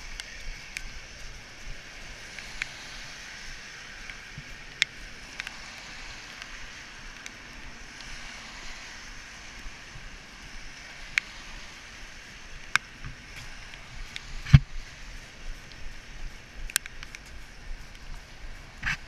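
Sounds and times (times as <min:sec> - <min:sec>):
traffic on wet road: 0:00.0 - 0:19.0.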